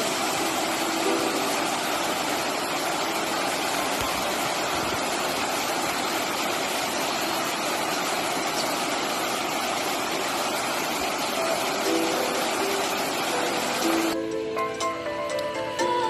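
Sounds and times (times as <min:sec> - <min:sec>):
white water rushing: 0:00.0 - 0:16.0.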